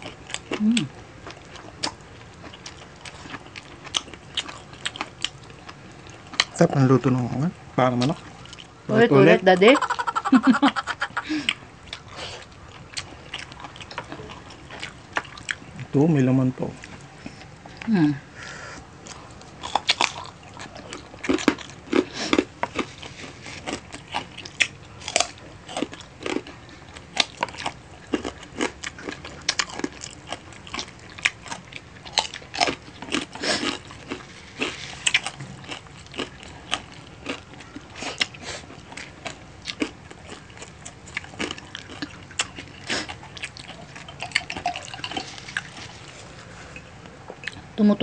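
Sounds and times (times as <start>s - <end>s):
people chewing and lip-smacking: 0.0s - 16.0s, 16.7s - 47.8s.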